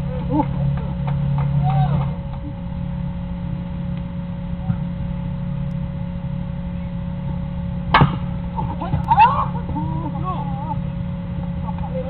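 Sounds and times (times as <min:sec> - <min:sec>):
faint steady hum: 0:00.0 - 0:12.0
low outdoor rumble: 0:00.0 - 0:12.0.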